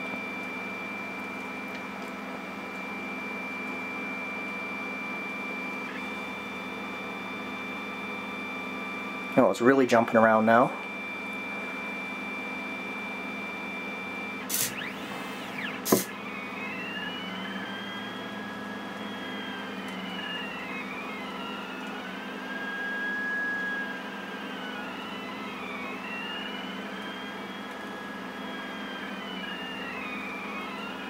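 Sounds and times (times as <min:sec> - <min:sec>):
stepper motors whining: 0:02.7 - 0:31.0.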